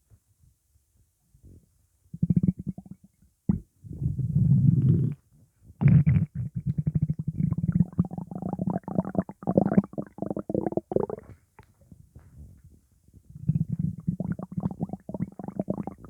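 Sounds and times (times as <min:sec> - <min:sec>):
stomach rumbling and gurgling: 0:02.2 - 0:16.0.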